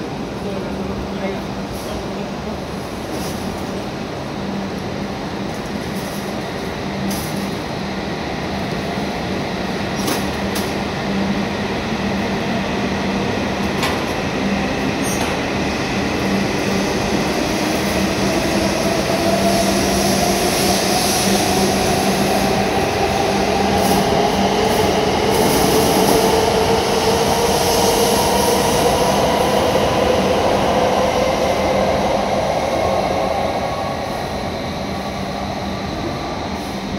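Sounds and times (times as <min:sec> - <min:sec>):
high-speed train motors whining: 0:03.5 - 0:36.9.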